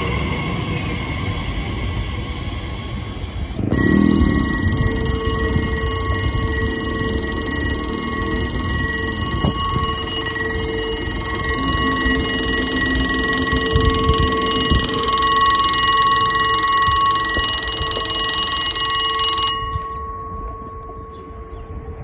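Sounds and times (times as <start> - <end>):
level crossing warning bell: 3.6 - 22.0.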